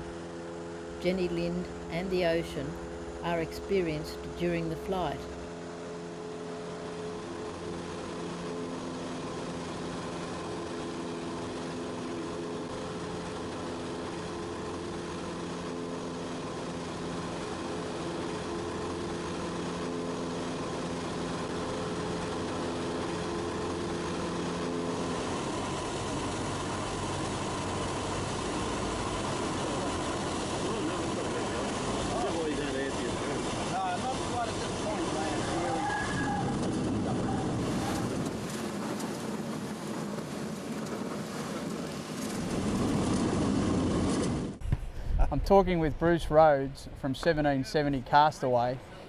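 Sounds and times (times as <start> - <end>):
propeller engine droning: 0.0 - 49.0.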